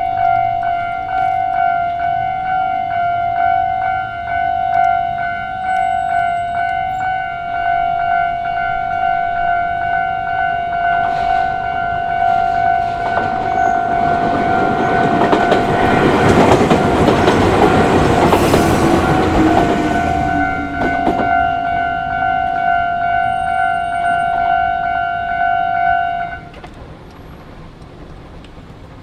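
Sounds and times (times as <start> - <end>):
level-crossing warning bell: 0.0 - 26.6
train passing: 0.0 - 29.0.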